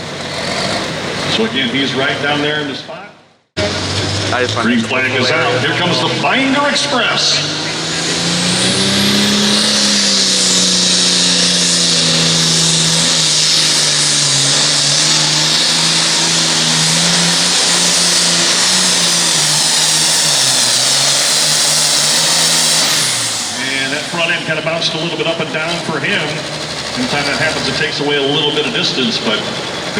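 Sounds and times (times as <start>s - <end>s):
tractor diesel engine full throttle: 0.0s - 29.9s.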